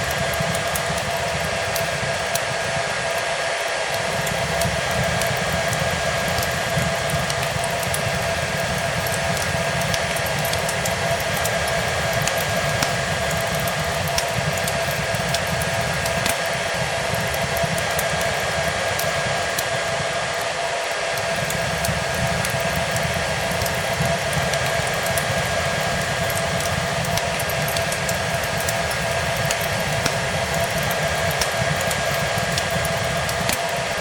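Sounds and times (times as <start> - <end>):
hair dryer running: 0.0 - 34.0
wood fire crackling: 0.0 - 34.0.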